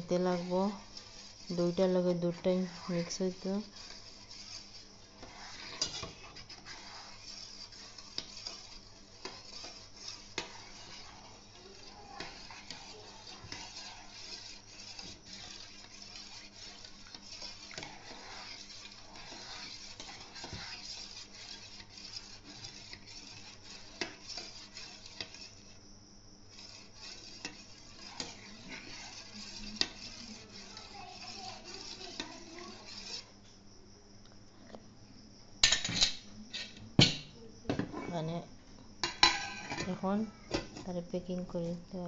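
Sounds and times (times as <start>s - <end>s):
metal spoon scraping and clinking in pot: 0.0s - 25.8s, 26.5s - 33.3s, 35.6s - 37.2s, 39.0s - 40.9s.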